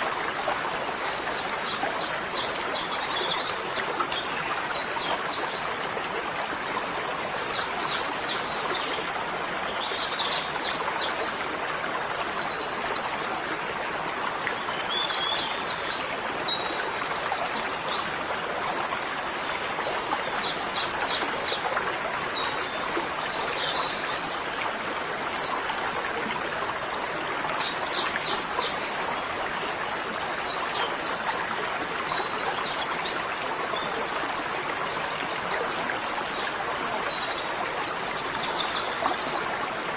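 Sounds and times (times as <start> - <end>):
rushing running water: 0.0 - 39.9.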